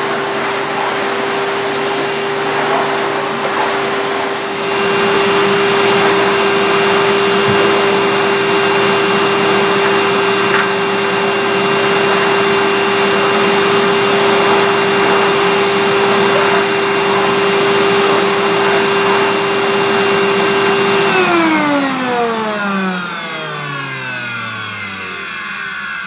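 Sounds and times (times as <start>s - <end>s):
vacuum cleaner running: 0.0s - 26.0s
vacuum motor winding down: 0.0s - 26.0s.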